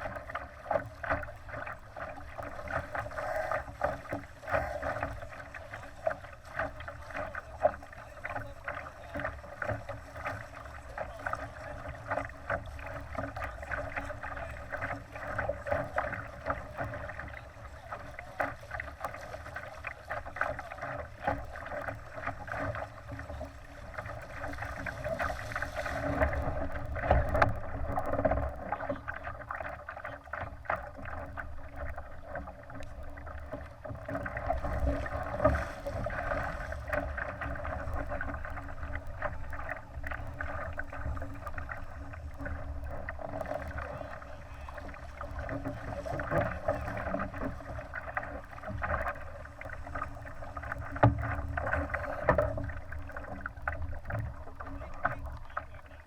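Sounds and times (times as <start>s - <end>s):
water splashing against hull: 0.0s - 56.0s.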